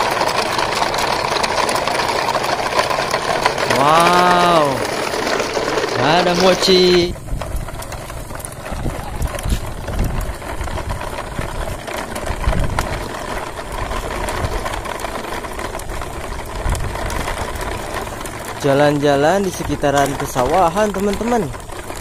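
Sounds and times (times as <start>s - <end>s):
clicks and rattles: 0.0s - 22.0s
toy wheels rolling on rough road: 0.0s - 22.0s.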